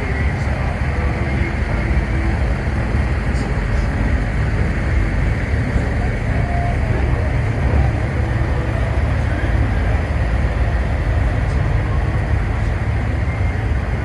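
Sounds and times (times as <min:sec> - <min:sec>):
truck engines idling: 0:00.0 - 0:14.0.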